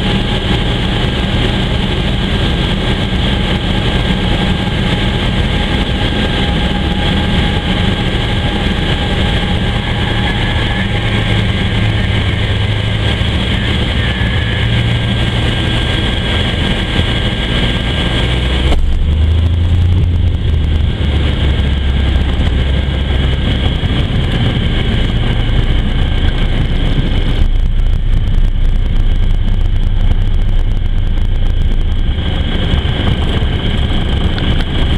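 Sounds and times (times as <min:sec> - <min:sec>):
light aircraft engine and propeller: 0:00.0 - 0:34.9.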